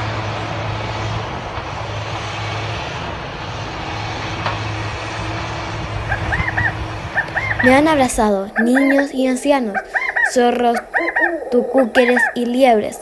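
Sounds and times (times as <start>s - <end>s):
heavy machinery engine running: 0.0s - 12.6s.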